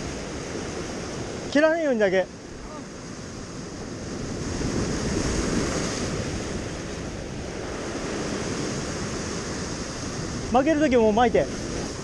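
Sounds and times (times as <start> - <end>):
surf breaking over rocks: 0.0 - 12.0
wind buffeting microphone: 0.0 - 12.0.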